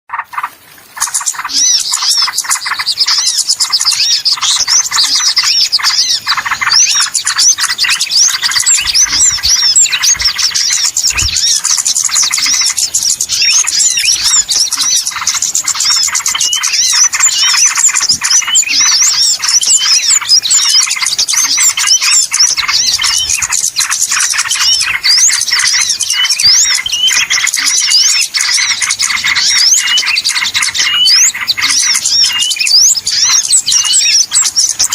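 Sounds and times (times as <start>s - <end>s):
small birds chirping and twittering: 0.1s - 34.9s.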